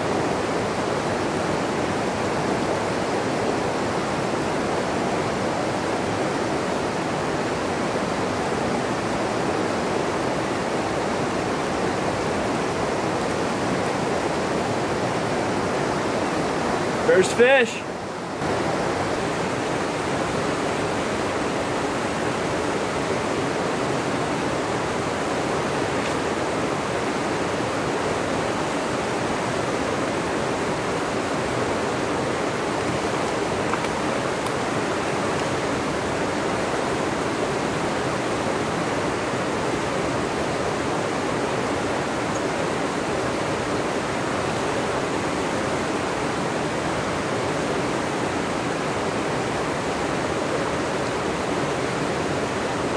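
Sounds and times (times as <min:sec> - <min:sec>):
river running over rocks: 0:00.0 - 0:52.9.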